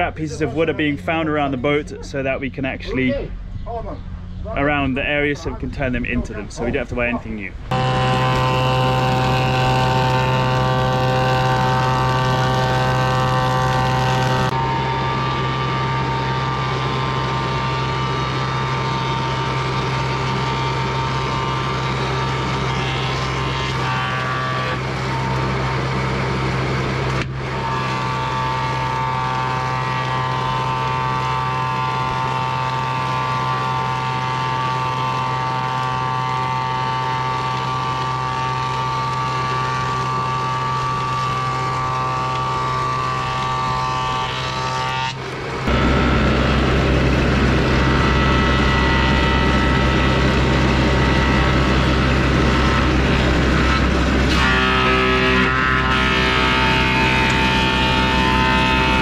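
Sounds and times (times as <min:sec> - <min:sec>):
power tool motor whine: 0:07.7 - 0:59.0.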